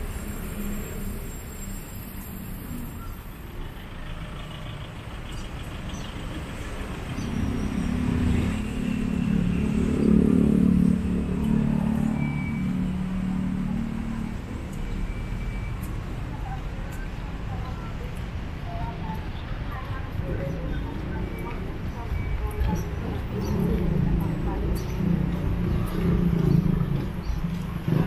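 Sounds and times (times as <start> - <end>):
street traffic: 0.0 - 28.0
vehicle engine hum passing: 0.0 - 28.0.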